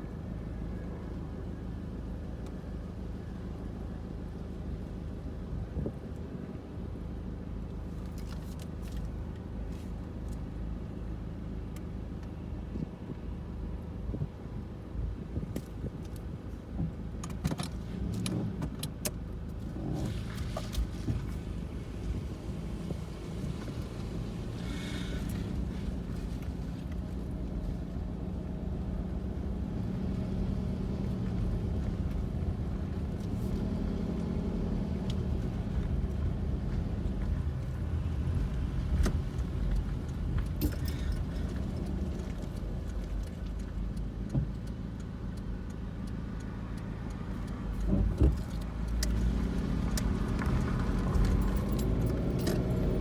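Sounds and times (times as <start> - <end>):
car driving slowly: 0.0 - 53.0.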